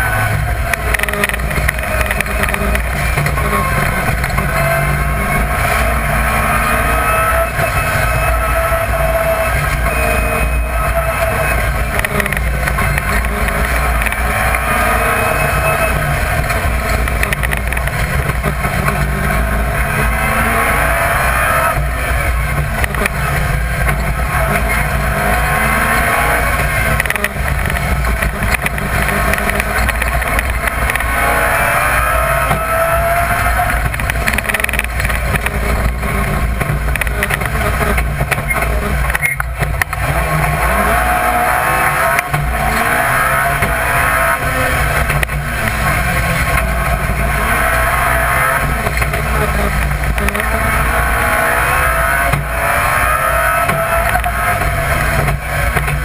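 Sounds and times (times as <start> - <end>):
rally car engine revving: 0.0 - 56.0
road and wind rumble: 0.0 - 56.0.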